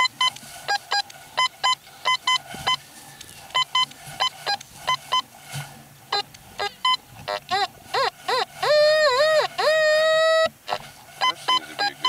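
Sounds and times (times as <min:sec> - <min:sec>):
metal detector beeps: 0:00.0 - 0:02.8, 0:03.5 - 0:05.2, 0:06.1 - 0:12.0.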